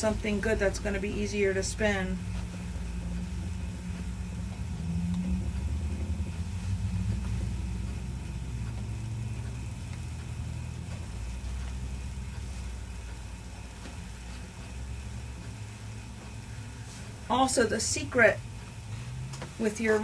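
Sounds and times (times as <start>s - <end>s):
spinning wheel rumbling: 0.0s - 20.0s.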